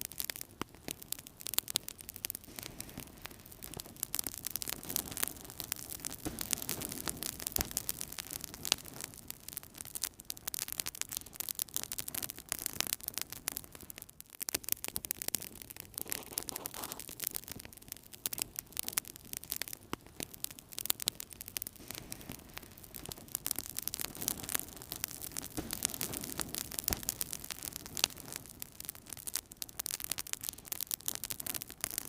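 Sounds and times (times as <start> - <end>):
soft steady hiss: 0.0 - 32.0
wood fire crackling: 0.0 - 32.0.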